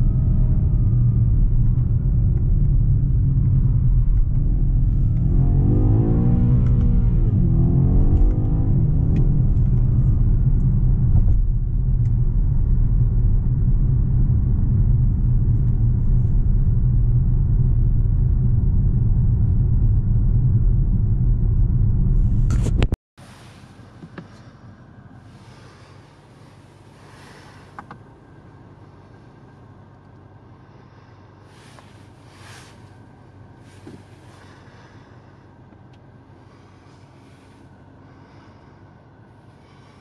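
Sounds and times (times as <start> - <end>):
car engine drone in cabin: 0.0 - 40.0.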